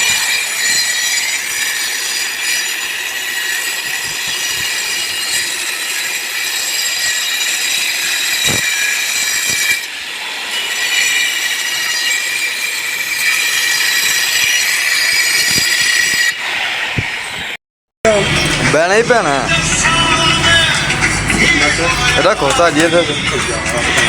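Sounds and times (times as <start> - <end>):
angle grinder grinding metal: 0.0 - 16.4, 18.1 - 24.0.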